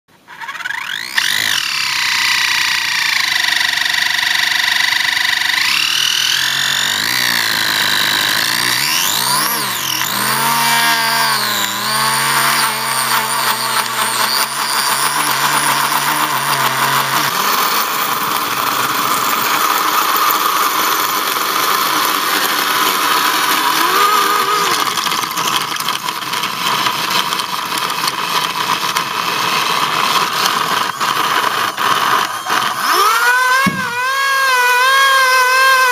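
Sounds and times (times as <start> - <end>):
electric motor whining: 0.2 - 35.9
tyres spinning on gritty surface: 0.3 - 35.9.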